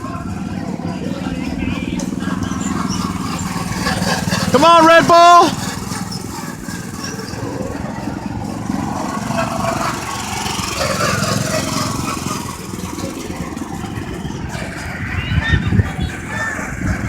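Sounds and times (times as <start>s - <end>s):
go-kart engines droning: 0.0s - 17.0s.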